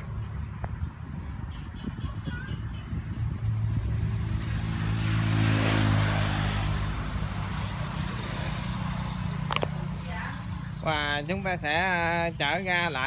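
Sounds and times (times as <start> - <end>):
vehicle passing by: 0.0 - 12.3.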